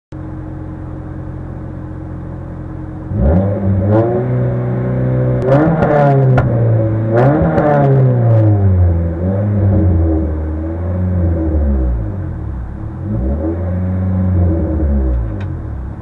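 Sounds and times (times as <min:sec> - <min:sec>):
car engine idling and revving: 0:00.1 - 0:16.0.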